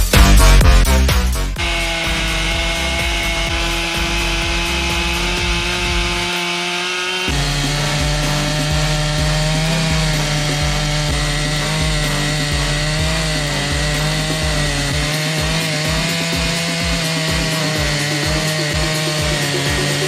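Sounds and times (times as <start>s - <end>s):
chainsaw cutting log: 0.0s - 20.0s.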